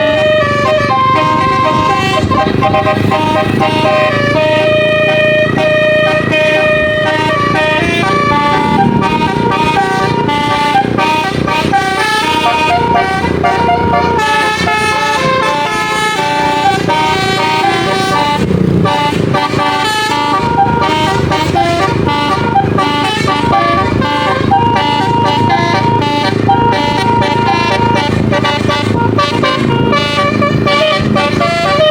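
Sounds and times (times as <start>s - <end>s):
multi-tone bus horn melody: 0.0s - 31.9s.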